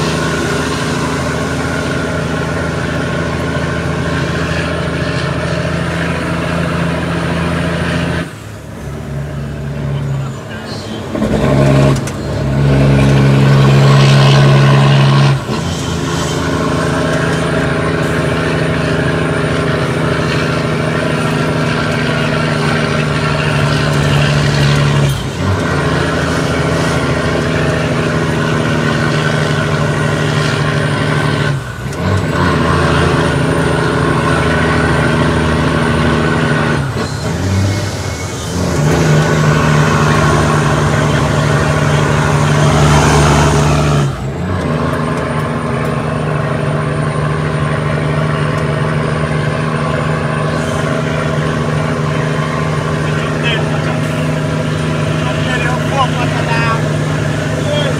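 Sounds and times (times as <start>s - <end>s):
diesel truck engine pulling: 0.0s - 57.9s.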